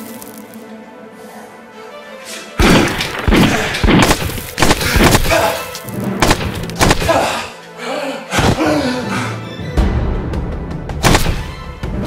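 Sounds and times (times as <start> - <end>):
film score music: 0.0 - 12.0.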